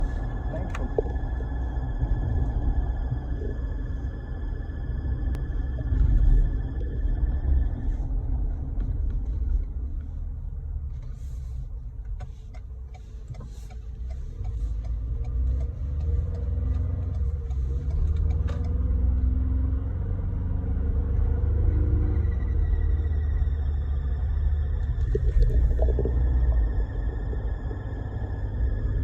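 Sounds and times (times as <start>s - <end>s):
low vehicle rumble: 0.0s - 29.0s
transmission whining: 0.0s - 29.0s.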